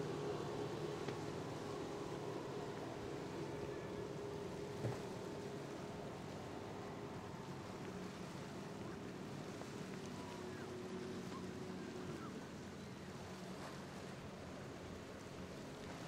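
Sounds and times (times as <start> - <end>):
motorboat engines droning: 0.0 - 16.0
wind and water hiss: 0.0 - 16.0.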